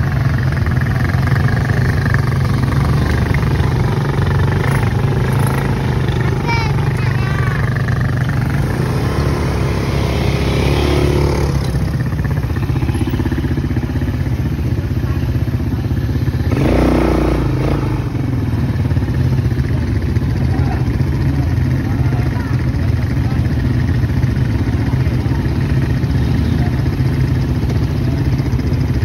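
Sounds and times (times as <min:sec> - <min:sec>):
atv engines running: 0:00.0 - 0:29.0.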